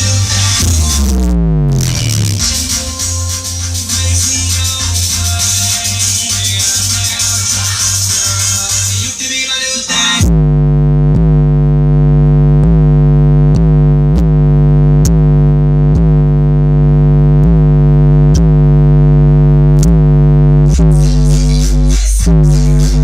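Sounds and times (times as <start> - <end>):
synthesizer tone from car stereo: 0.0 - 23.0.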